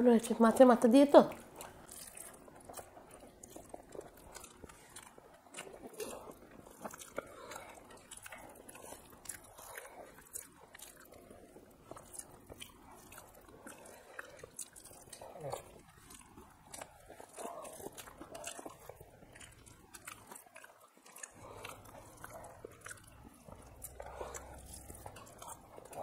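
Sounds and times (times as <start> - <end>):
people chewing food: 0.0 - 26.0.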